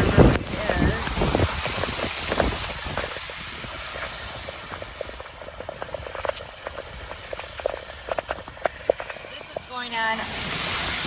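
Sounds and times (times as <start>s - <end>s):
rain ticks: 0.0s - 11.0s
tyres spraying through floodwater: 0.0s - 11.0s.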